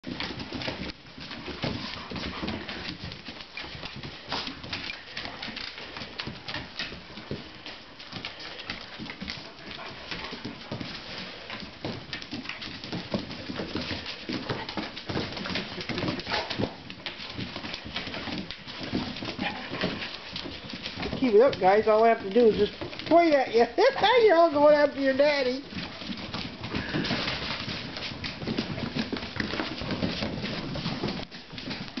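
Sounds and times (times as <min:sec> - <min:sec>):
dog claws clicking on tile floor: 0:00.0 - 0:32.0
puppies suckling: 0:00.0 - 0:32.0
puppy sounds: 0:00.0 - 0:32.0.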